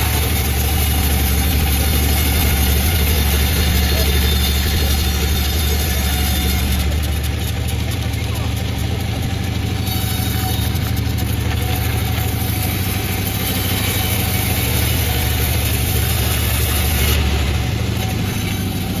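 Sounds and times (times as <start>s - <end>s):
chainsaw running: 0.0s - 19.0s.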